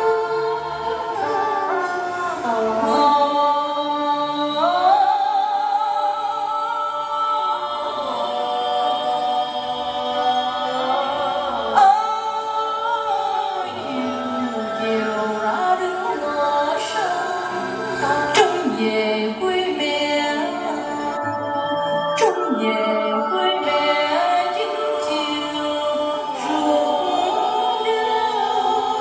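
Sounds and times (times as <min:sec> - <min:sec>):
woman singing with vibrato: 0:00.0 - 0:29.0.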